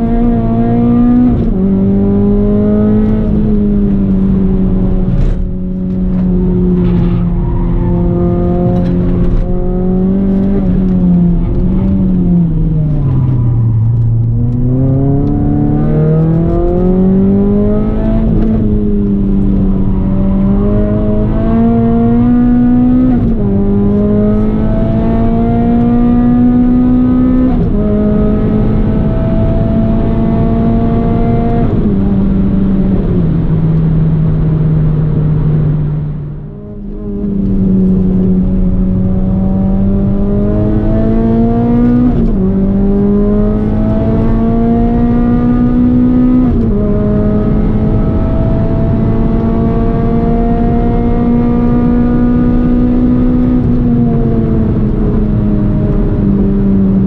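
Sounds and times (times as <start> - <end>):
car engine revving through gears: 0.0 - 57.0.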